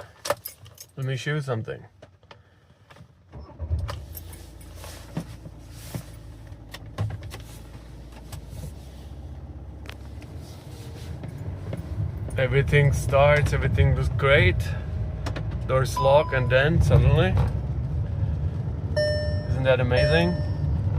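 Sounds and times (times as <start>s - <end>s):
car engine starting and idling: 2.0s - 20.9s.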